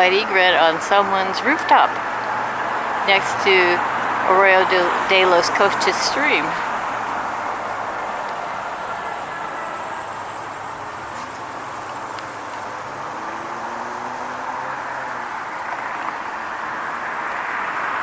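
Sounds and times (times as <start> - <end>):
road traffic rush: 0.0 - 18.0.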